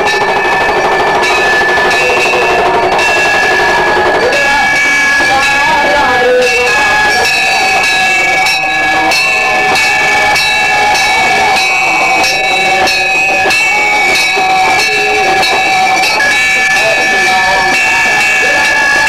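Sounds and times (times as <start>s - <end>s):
metal bells ringing: 0.0s - 19.0s.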